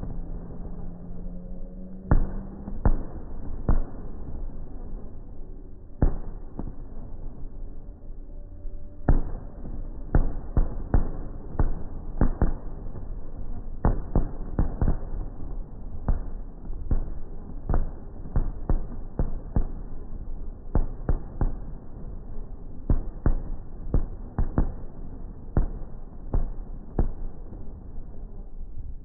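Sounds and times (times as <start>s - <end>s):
fireworks booming: 0.0s - 7.5s, 9.0s - 28.4s
low rumble: 0.0s - 29.0s.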